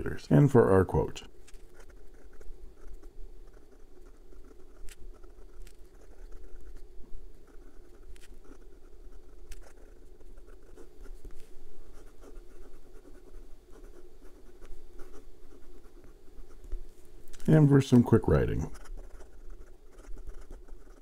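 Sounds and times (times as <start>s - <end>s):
pen nib scratching on paper: 1.4s - 21.0s.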